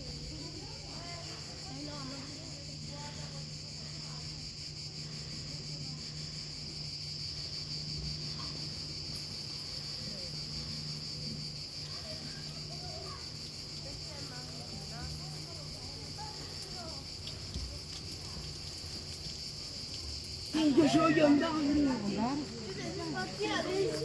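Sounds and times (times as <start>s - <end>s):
cicadas buzzing: 0.0s - 24.0s.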